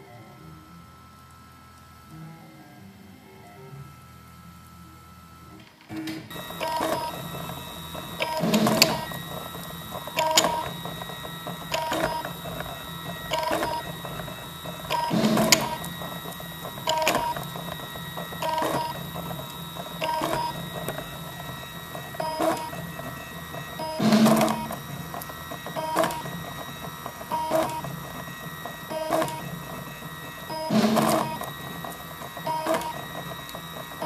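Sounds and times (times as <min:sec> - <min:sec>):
stepper motor whine: 0:03.6 - 0:34.0.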